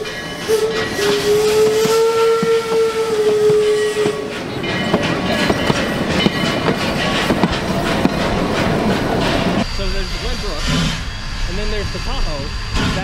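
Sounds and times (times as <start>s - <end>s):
train wheels clickety-clack: 0.0s - 11.0s, 11.6s - 13.0s
steam locomotive whistle: 0.0s - 13.0s.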